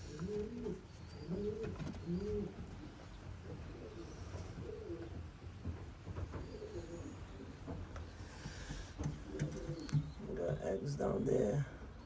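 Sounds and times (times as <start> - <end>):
pigeons cooing: 0.0 - 5.4, 6.3 - 12.0.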